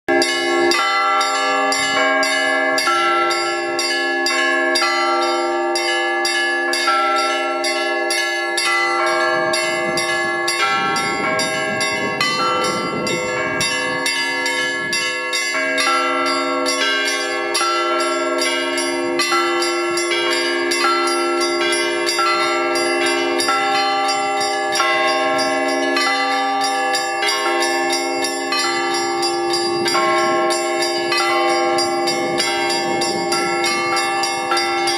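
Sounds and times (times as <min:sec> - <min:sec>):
church bells ringing a peal: 0:00.1 - 0:34.9
deep bell humming: 0:00.1 - 0:34.9.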